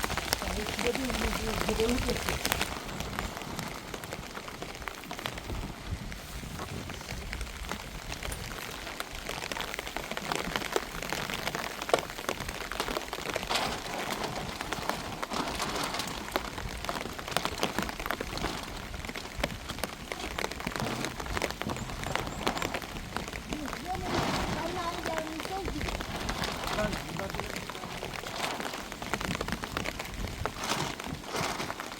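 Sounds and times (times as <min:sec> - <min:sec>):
raindrops ticking: 0:00.0 - 0:31.9
steady rain falling: 0:00.0 - 0:31.9.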